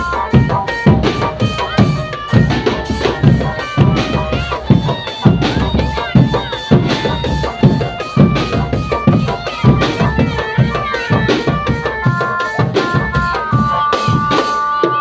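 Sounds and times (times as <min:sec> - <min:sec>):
bass drums steady beat: 0:00.0 - 0:14.4
reedy wind instrument melody: 0:00.0 - 0:15.0.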